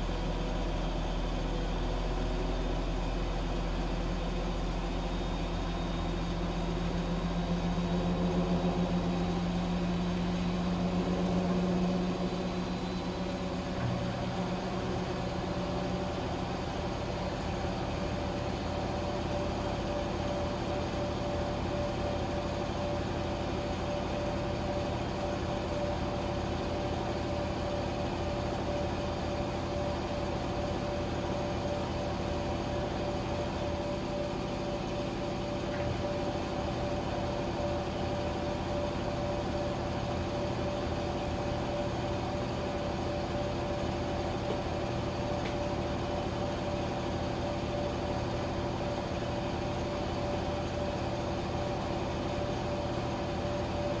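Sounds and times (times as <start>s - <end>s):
washing machine running: 4.3s - 54.0s.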